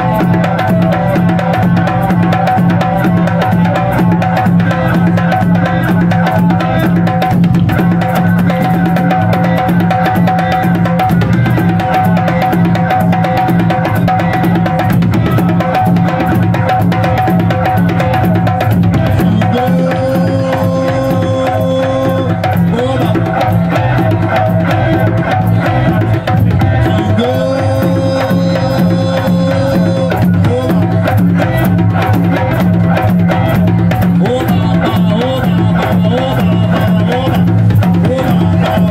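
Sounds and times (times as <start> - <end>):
hand drums keeping a steady beat: 0.0 - 38.9.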